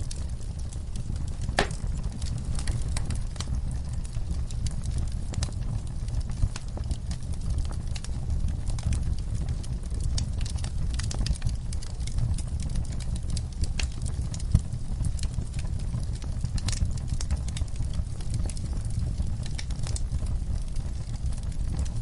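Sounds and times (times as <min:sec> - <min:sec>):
campfire crackling and popping: 0:00.0 - 0:22.0
steady low rumble: 0:00.0 - 0:22.0.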